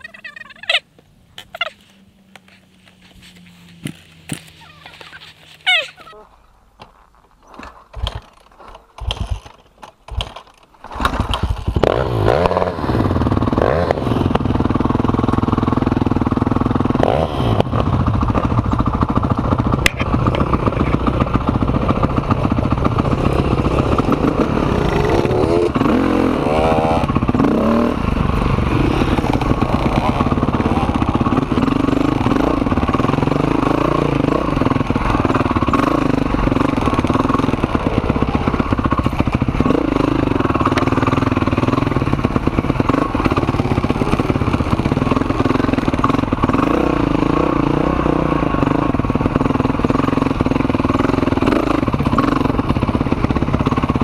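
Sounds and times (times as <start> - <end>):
motorcycle engine sputtering and revving: 7.4 - 54.0.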